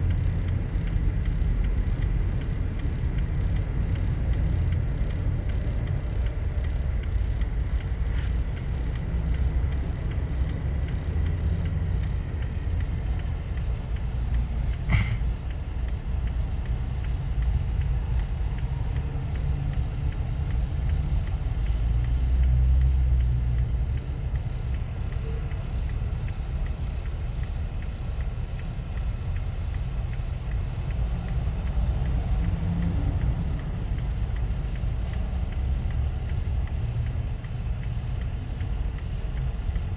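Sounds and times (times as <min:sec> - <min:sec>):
motor vehicle rumble: 0:00.0 - 0:39.9.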